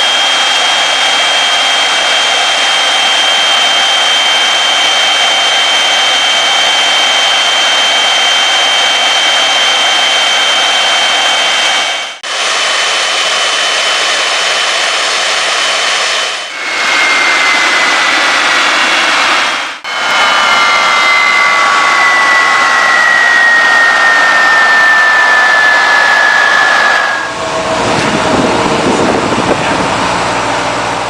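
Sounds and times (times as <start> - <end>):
gas turbine running: 0.0 - 31.0.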